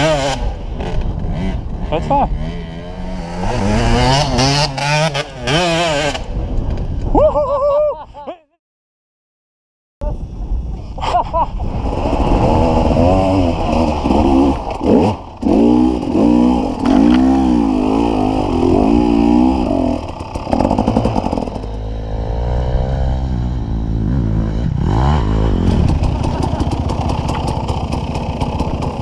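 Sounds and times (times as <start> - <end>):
motorcycle engine revving: 0.0 - 6.4, 11.6 - 29.0.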